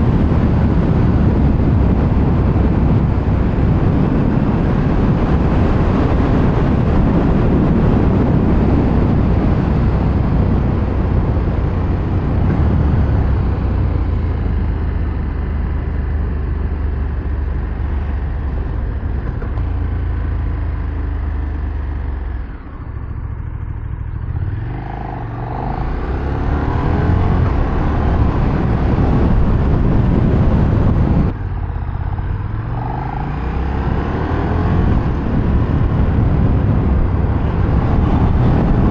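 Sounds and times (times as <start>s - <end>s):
wind rush: 0.0s - 20.2s, 24.3s - 38.9s
motorcycle engine revving: 0.0s - 38.9s.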